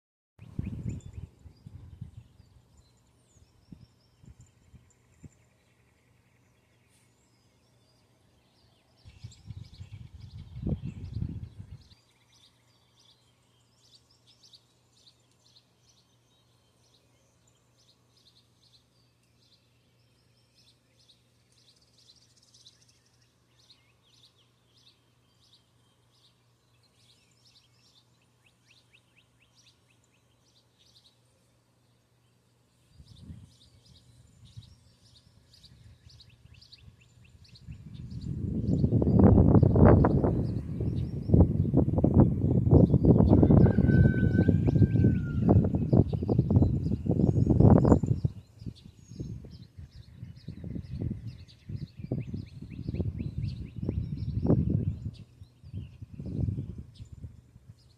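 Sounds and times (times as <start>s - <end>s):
birds chirping: 0.4s - 57.9s.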